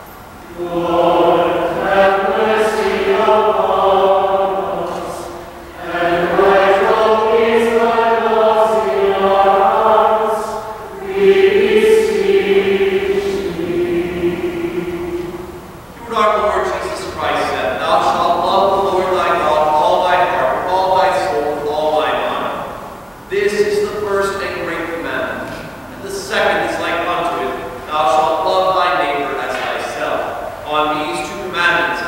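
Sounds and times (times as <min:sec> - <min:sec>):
choir singing a chant: 0:00.4 - 0:32.0.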